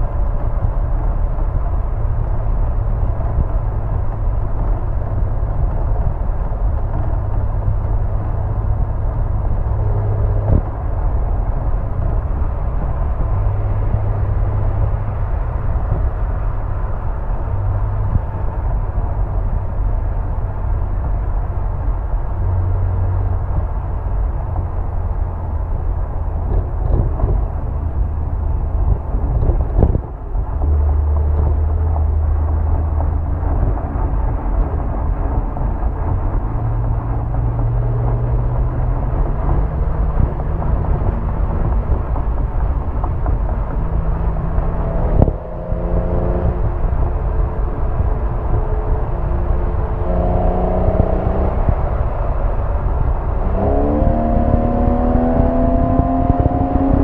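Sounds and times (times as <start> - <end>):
car exhaust at cruising speed: 0.0 - 57.0.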